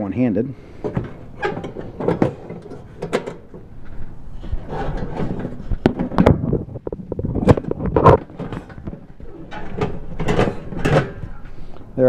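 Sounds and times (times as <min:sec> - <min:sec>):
metal rattling: 0:00.7 - 0:11.7
metal pot clunking and scraping: 0:00.8 - 0:03.8, 0:04.4 - 0:11.4.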